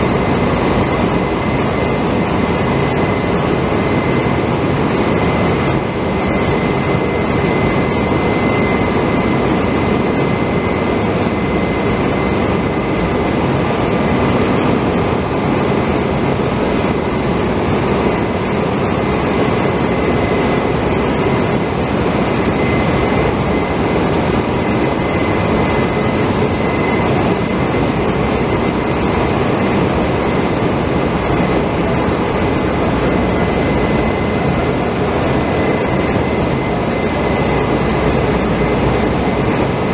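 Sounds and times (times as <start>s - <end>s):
machinery drone with high whine: 0.0s - 39.9s.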